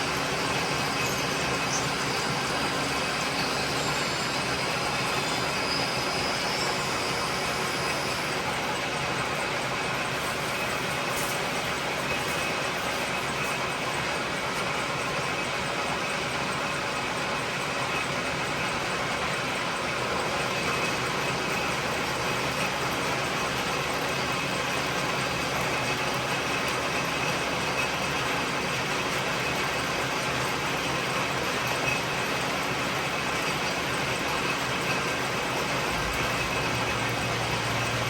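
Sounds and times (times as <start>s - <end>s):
metal lathe whirring: 0.0s - 38.0s.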